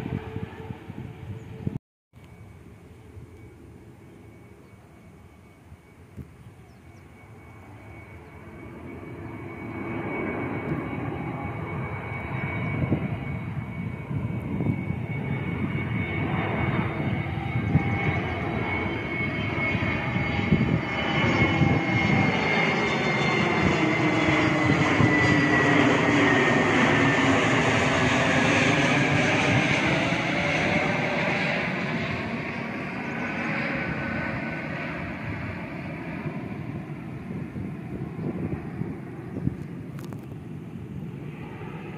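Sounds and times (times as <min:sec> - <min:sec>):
jet airliner engines whining: 0:00.0 - 0:41.9.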